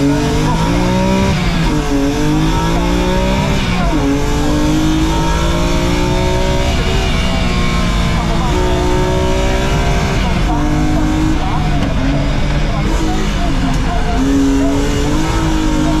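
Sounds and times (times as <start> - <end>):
car engine accelerating through gears: 0.0 - 16.0.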